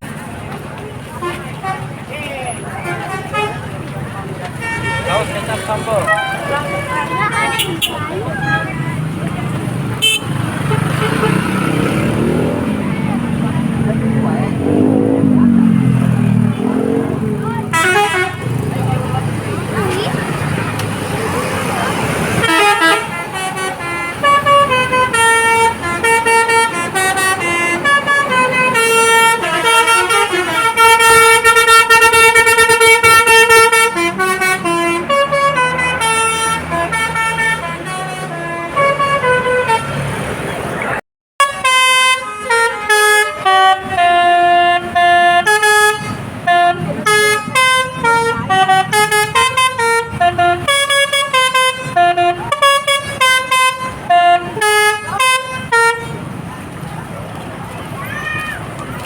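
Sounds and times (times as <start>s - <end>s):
multi-tone bus horn melody: 1.2s - 3.8s, 4.4s - 40.5s, 41.4s - 56.5s.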